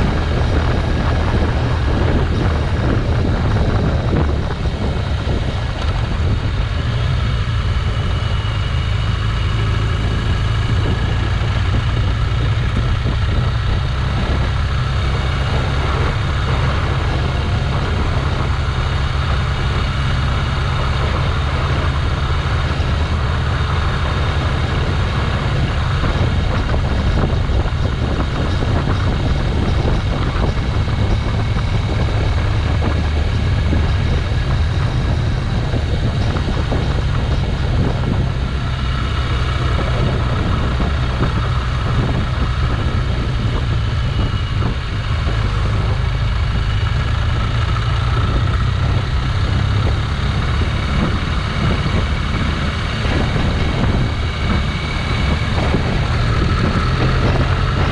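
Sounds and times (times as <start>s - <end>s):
motorcycle engine droning: 0.0s - 57.9s.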